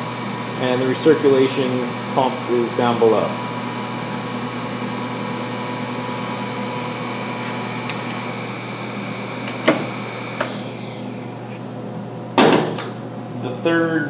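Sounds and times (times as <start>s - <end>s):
pump hum: 0.0s - 11.4s.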